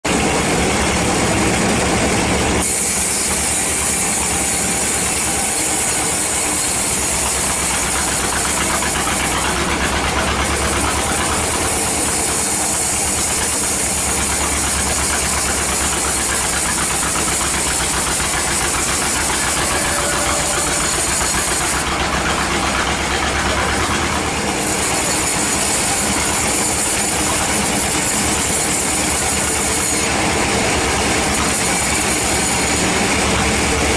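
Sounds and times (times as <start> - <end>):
band saw running: 0.0 - 33.9
saw blade hissing in wood: 2.6 - 33.4.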